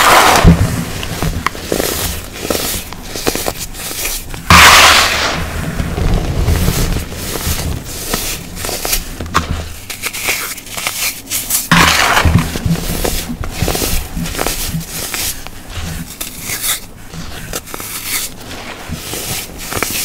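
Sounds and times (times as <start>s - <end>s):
baking soda crunching in hands: 0.0s - 5.0s, 6.2s - 20.0s.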